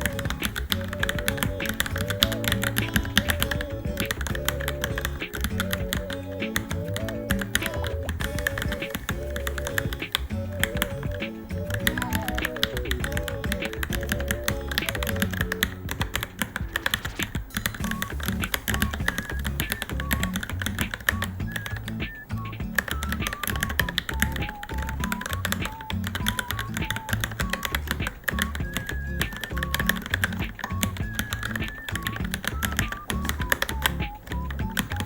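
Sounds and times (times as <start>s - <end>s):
fast mechanical keyboard typing: 0.0s - 22.1s, 22.7s - 35.0s
background music with bass beat: 0.0s - 35.0s.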